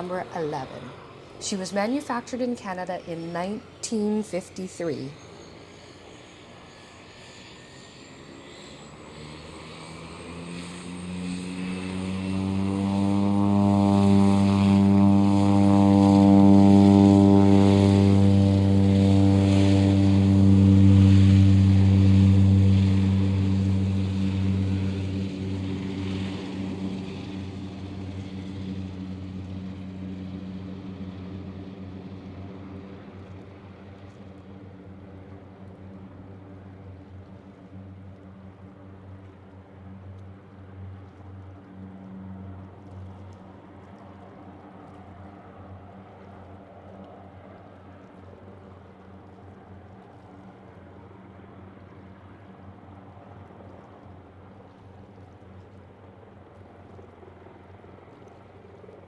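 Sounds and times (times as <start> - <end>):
propeller plane engine drone: 0.0 - 59.0.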